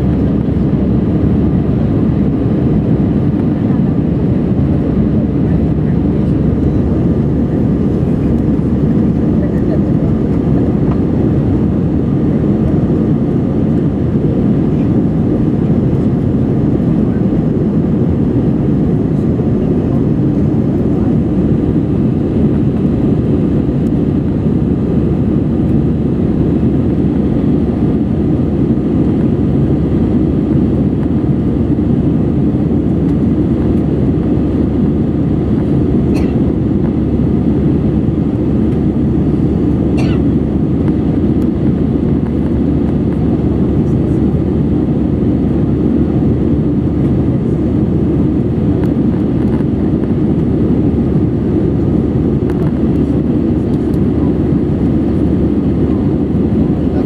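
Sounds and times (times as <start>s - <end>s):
airplane cabin engine roar: 0.0s - 57.0s.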